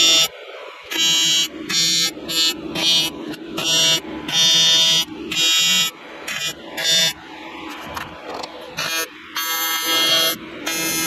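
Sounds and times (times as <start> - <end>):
welding arc buzzing: 0.0 - 0.3, 0.9 - 8.1, 8.7 - 11.0.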